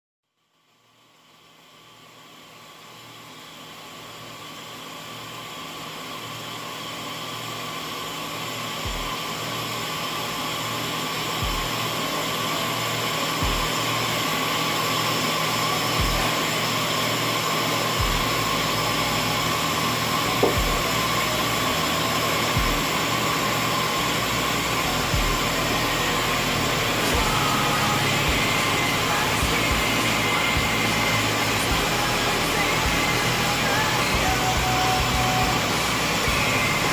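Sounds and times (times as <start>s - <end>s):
machine hum and whir: 0.5s - 36.9s.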